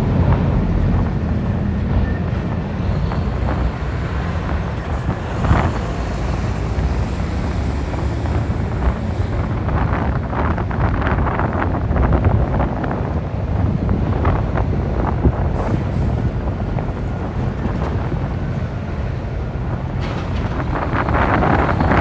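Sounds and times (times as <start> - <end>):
truck diesel engines rumbling: 0.0 - 22.0
wind buffeting microphone: 0.0 - 22.0.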